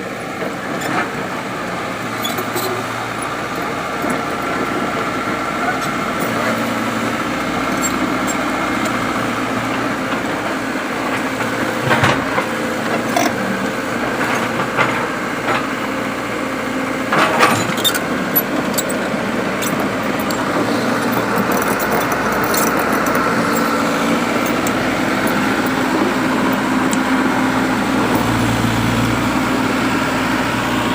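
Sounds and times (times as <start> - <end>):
excavator diesel engine running: 0.0 - 30.9.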